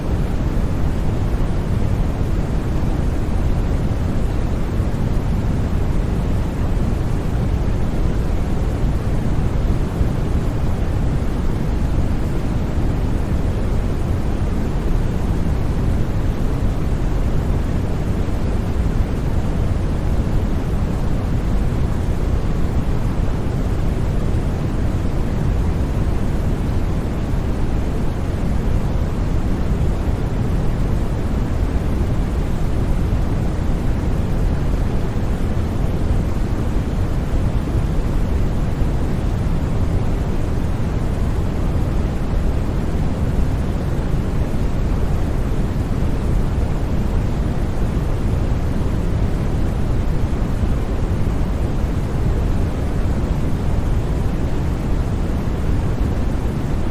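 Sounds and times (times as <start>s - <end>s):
deep white noise: 0.0s - 56.9s.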